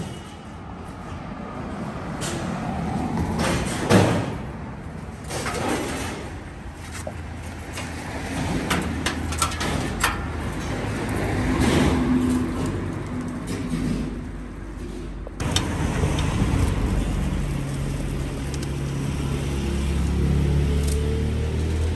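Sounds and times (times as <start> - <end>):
passing vehicles rumbling: 0.0 - 21.9
engine hum: 1.4 - 21.9.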